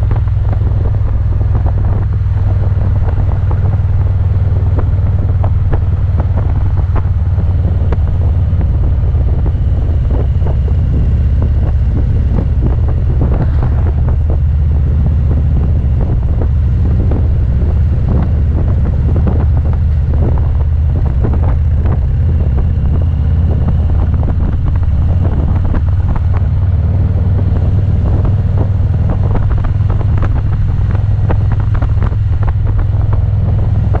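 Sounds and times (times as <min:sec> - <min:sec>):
motorcycle engine rumbling: 0:00.0 - 0:34.0
wind buffeting microphone: 0:00.0 - 0:34.0.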